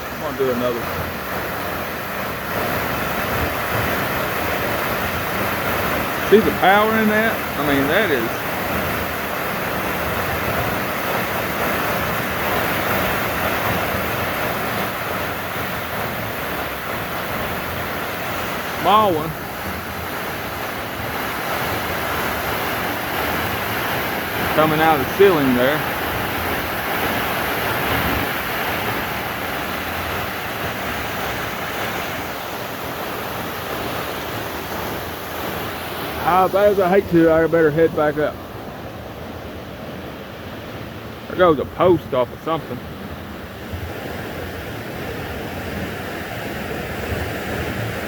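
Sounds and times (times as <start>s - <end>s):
waterfall rushing into river: 0.0s - 48.0s.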